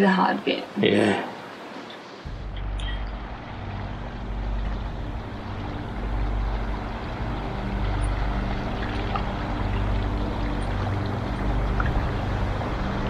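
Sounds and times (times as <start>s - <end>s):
motor droning: 2.3s - 13.0s.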